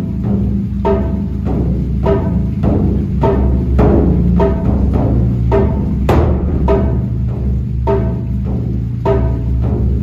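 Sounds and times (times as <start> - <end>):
low bass drone: 0.0 - 10.0
pitched percussion hits: 0.0 - 10.0.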